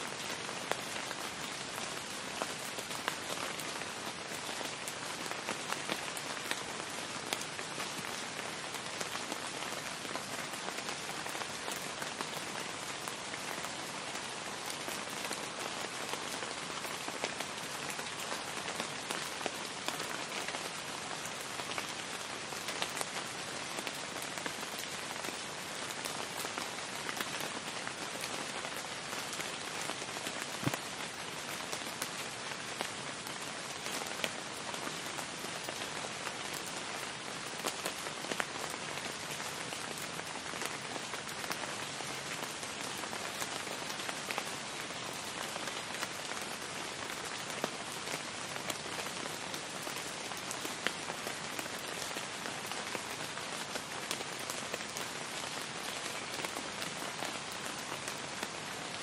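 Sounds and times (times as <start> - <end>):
heavy rain falling: 0.1 - 59.0.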